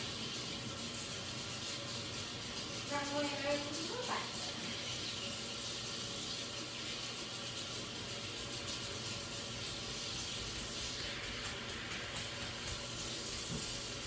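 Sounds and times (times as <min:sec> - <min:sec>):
water running from a tap: 0:00.0 - 0:14.0.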